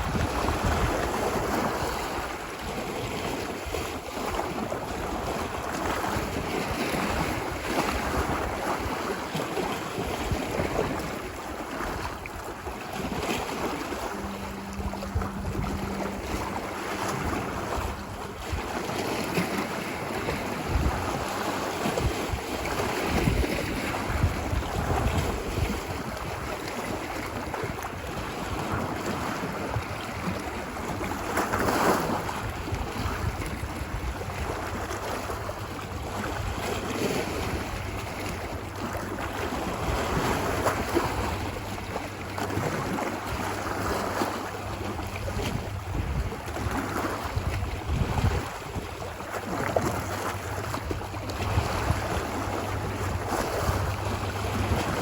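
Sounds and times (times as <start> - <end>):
ocean surf washing onto beach: 0.0 - 55.0
wind rumble on microphone: 0.0 - 55.0.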